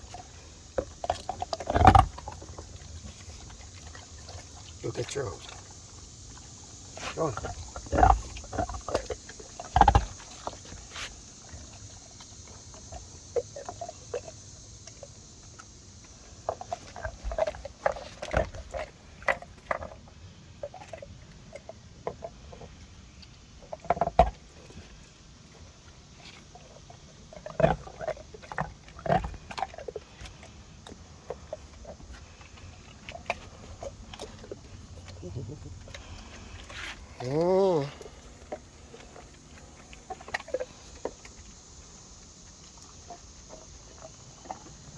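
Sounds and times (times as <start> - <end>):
dogs splashing in water: 0.0 - 44.9.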